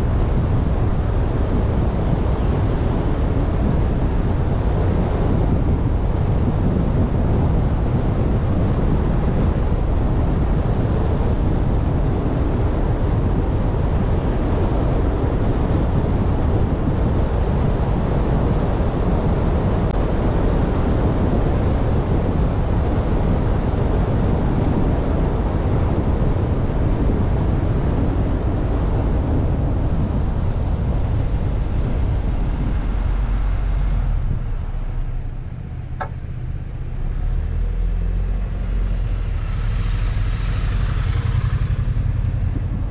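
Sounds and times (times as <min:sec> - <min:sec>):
wind rushing: 0:00.0 - 0:36.3, 0:37.0 - 0:42.9
vehicle road noise: 0:00.0 - 0:42.9.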